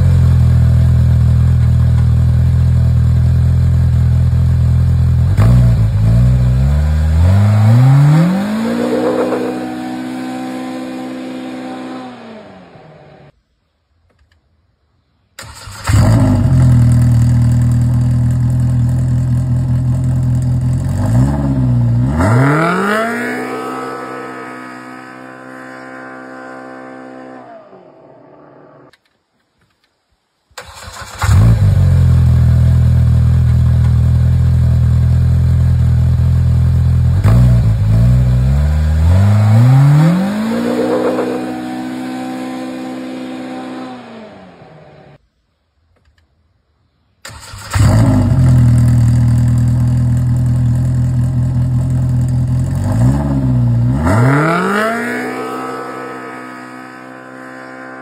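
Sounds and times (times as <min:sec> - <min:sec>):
engine idling and revving: 0:00.0 - 0:13.3, 0:15.5 - 0:28.9, 0:30.8 - 0:45.2, 0:47.3 - 0:58.0.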